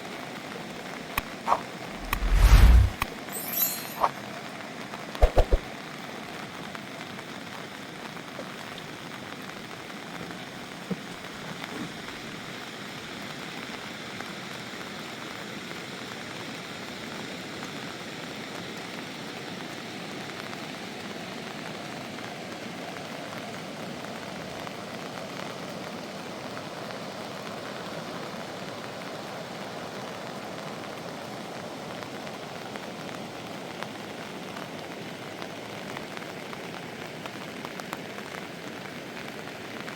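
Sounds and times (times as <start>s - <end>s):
rain falling: 4.2s - 39.9s.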